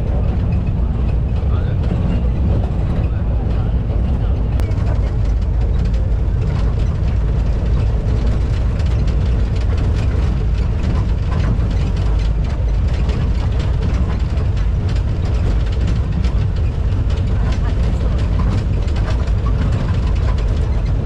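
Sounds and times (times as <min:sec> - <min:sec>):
light rattles: 0:00.0 - 0:21.0
vehicle engine and road noise: 0:00.0 - 0:21.0.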